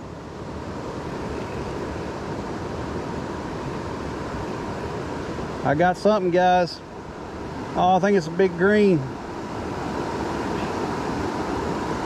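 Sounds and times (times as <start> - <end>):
creek current rushing: 0.0 - 12.0.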